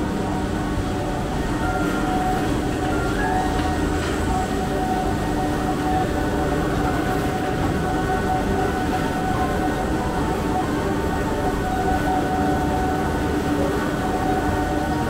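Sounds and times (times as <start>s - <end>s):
machinery rumbling: 0.0s - 15.0s
steady machine tones: 0.0s - 15.0s.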